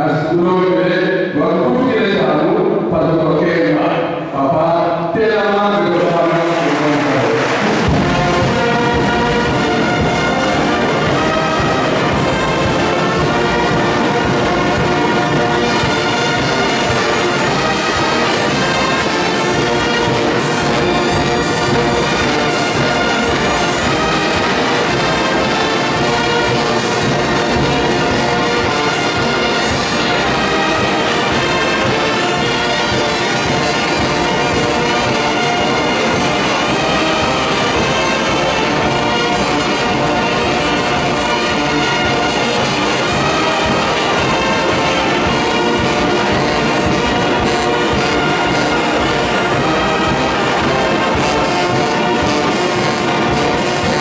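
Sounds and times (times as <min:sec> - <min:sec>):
brass band playing: 0:00.0 - 0:54.0.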